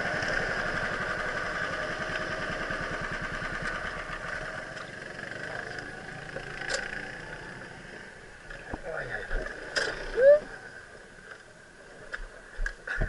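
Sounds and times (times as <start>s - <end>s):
go-kart engine at low revs: 0.0s - 10.9s.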